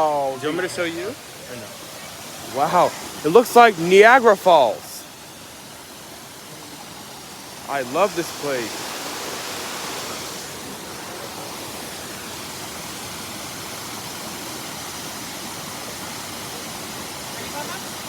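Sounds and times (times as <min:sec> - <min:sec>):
waterfall hiss: 0:00.0 - 0:18.0.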